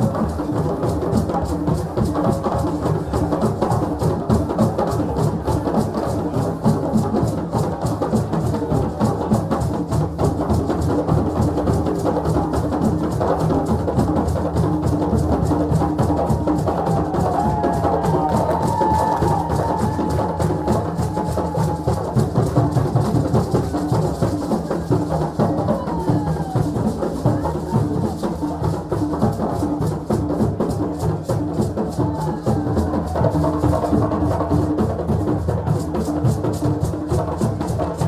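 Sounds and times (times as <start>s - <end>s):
drums in fast rhythm: 0.0s - 38.0s.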